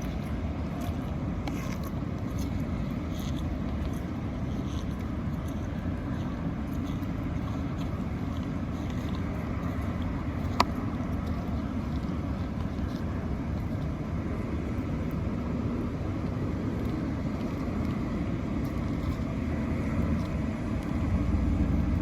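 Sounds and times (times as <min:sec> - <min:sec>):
low rumbling outdoor noise: 0:00.0 - 0:22.0.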